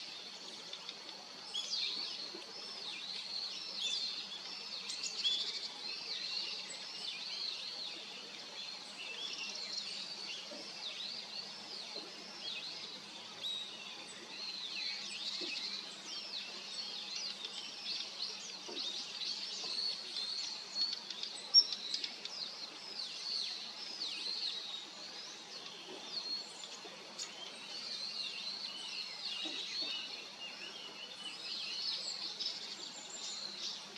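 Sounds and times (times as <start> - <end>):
small songbirds chirping: 0.0 - 33.9.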